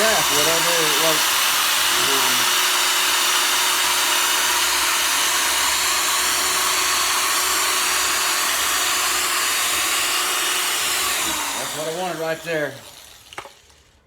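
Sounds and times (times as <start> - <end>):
electric sander running: 0.0 - 14.0.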